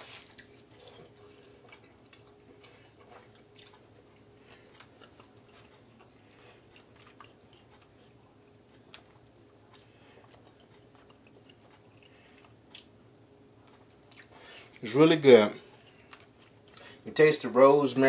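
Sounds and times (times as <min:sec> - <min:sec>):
faint chewing: 0:00.0 - 0:13.0, 0:13.6 - 0:14.9, 0:15.6 - 0:17.1
faint steady hum: 0:00.0 - 0:18.0.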